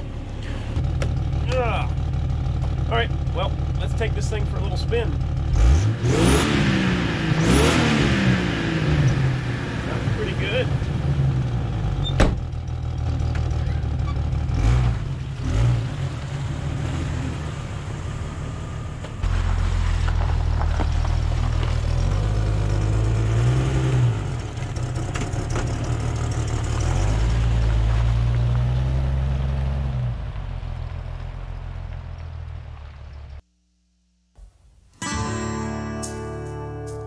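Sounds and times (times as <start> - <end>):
car engine driving off: 0.0 - 33.4.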